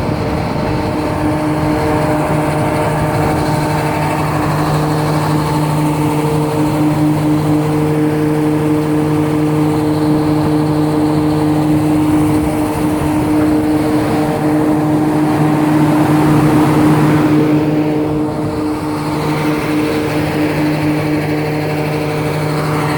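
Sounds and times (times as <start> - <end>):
diesel generator droning: 0.0 - 22.9.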